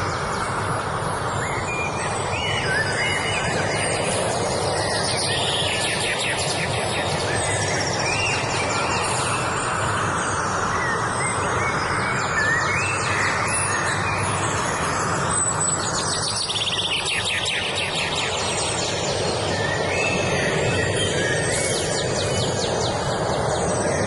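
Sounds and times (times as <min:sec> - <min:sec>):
songbirds singing: 0:00.0 - 0:24.0
steady rushing noise: 0:00.0 - 0:24.0.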